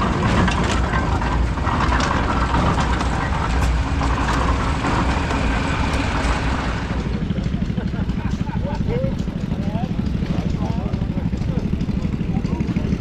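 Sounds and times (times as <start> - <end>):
tractor engine low rumble: 0.0 - 13.0.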